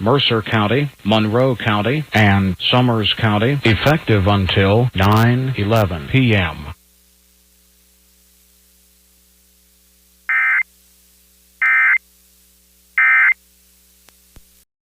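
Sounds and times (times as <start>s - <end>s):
faint steady line hum: 0.0s - 14.6s.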